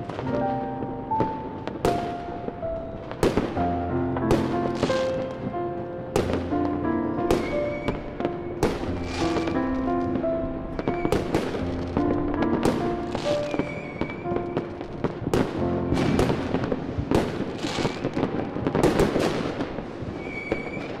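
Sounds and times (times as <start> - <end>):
music with held notes: 0.0 - 18.8
fireworks banging and crackling: 0.0 - 21.0.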